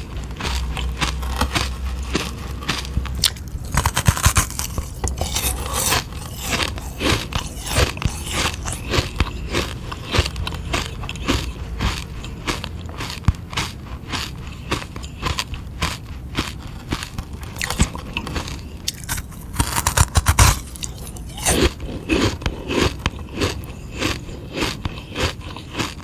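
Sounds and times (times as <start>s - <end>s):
crunching ice lolly: 0.0s - 26.0s.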